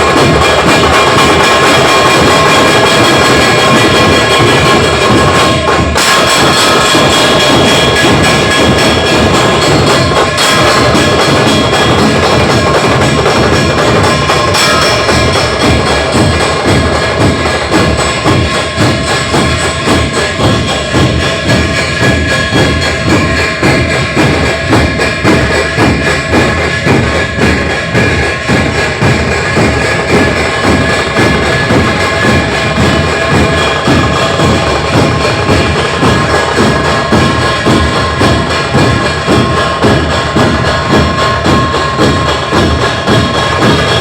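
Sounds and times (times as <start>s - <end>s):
drums playing steady rhythm: 0.0s - 44.0s
jingling cymbals: 0.0s - 44.0s.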